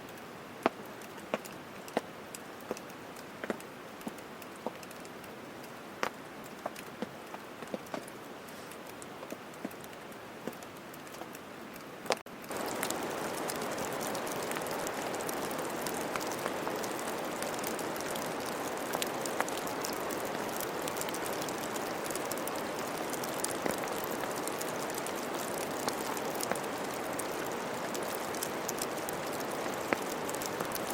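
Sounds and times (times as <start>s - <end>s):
rain falling: 0.0s - 30.9s
raindrops ticking: 0.0s - 30.9s.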